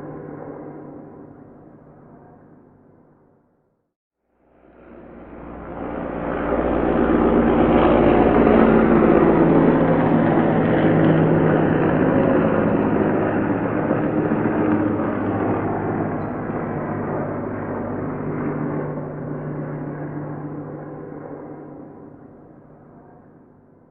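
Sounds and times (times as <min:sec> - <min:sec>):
helicopter flying past: 0:00.0 - 0:03.4, 0:04.3 - 0:23.9.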